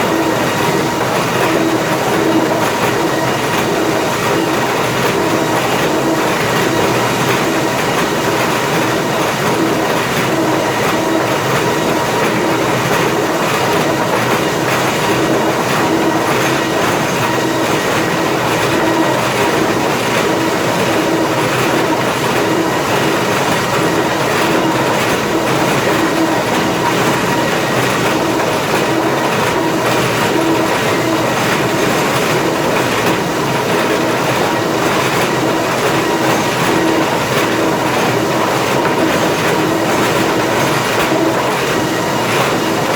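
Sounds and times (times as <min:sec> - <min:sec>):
planer machinery humming: 0:00.0 - 0:42.9.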